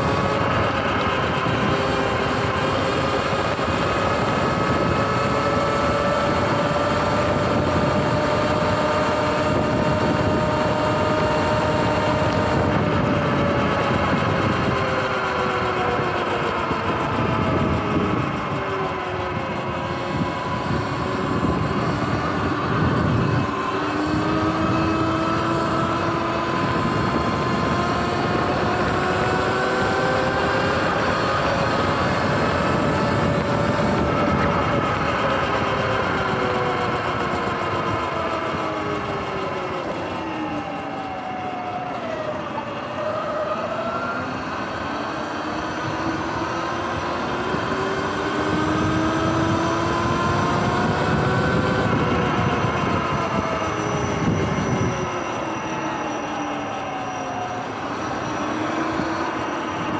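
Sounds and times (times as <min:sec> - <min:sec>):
electric motor whining: 0:00.0 - 0:59.9
wind and road noise: 0:00.0 - 0:59.9.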